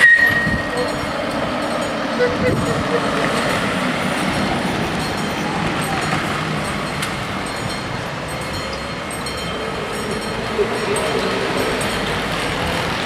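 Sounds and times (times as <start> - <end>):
level crossing warning bells: 0.0 - 13.0
street traffic: 0.0 - 13.0.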